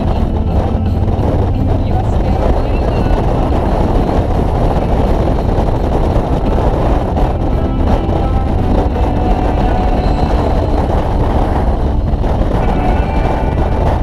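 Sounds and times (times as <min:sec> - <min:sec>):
motorcycle engine running: 0:00.0 - 0:14.0
wind rushing on microphone: 0:00.0 - 0:14.0.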